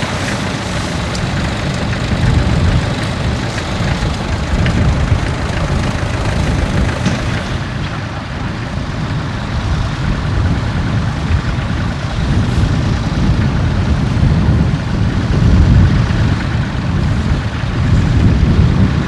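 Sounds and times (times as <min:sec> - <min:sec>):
tractor engine rumbling: 0:00.0 - 0:19.0.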